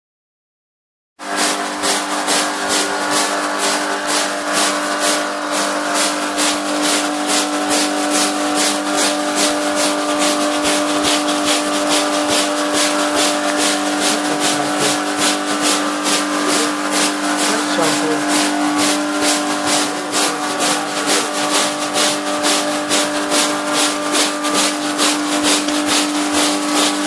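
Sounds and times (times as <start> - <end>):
brush scrubbing a rug: 1.2 - 27.0
steady machine hum: 1.2 - 27.0.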